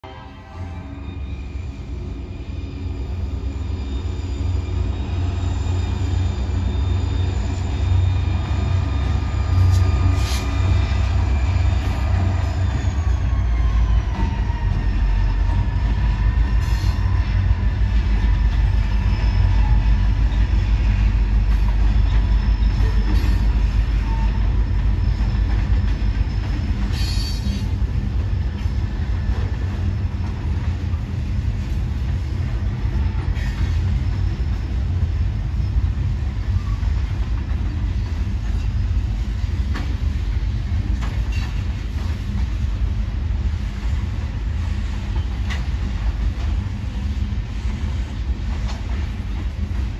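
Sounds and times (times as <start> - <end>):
diesel locomotive engine passing: 0.0 - 49.9
sharp train wheel sounds: 1.3 - 49.9.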